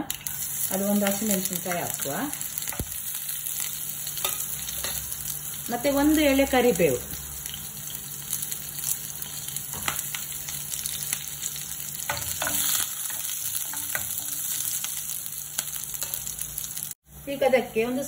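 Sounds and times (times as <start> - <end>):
leaves sizzling in hot oil: 0.0 - 18.0.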